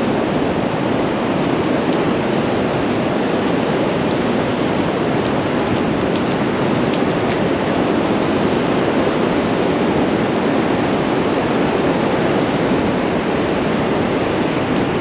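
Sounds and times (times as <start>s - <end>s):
sea surf breaking on beach: 0.0s - 15.0s
wind: 0.0s - 15.0s.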